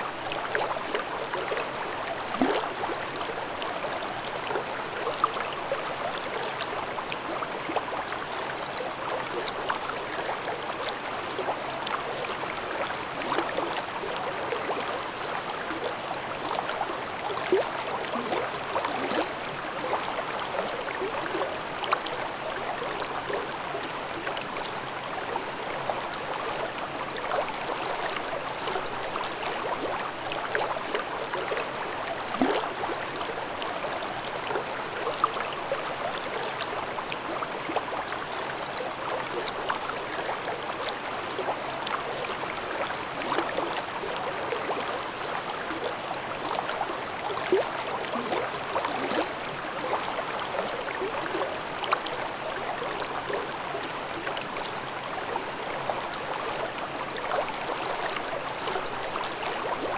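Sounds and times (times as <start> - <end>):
stream babbling over rocks: 0.1 - 59.9.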